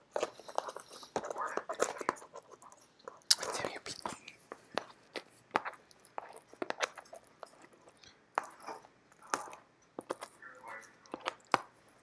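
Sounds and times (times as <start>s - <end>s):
packaging clicks and crackly scrapes: 0.0s - 12.0s.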